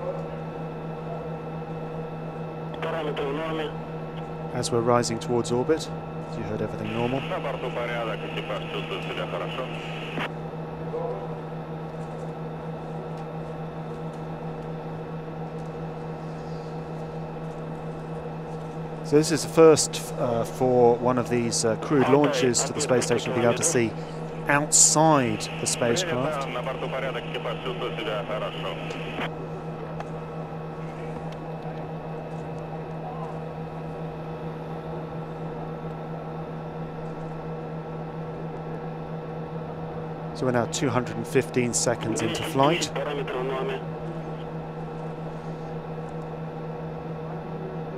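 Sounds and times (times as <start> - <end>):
electrical hum: 0.0 - 47.9.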